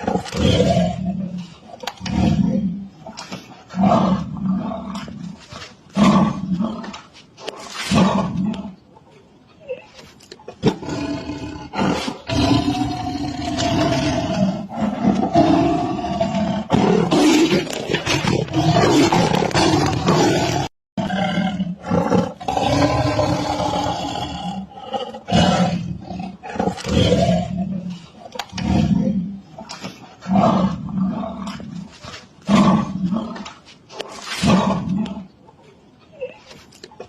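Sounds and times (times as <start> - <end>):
big cats roaring and growling: 0.0 - 8.8, 10.6 - 35.3.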